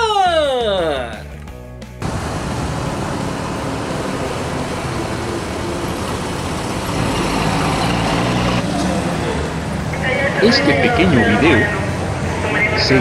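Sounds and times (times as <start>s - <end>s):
road traffic rumble from car: 2.0s - 13.0s.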